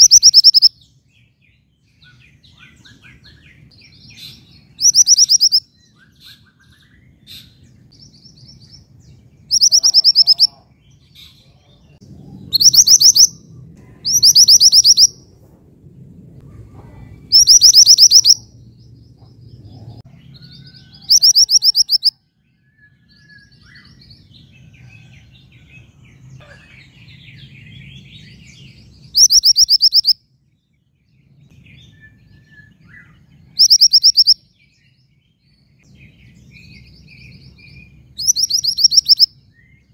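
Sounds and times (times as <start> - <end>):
soft bird chirps: 0.0 - 13.4, 14.0 - 15.2, 16.6 - 25.2, 26.3 - 39.9.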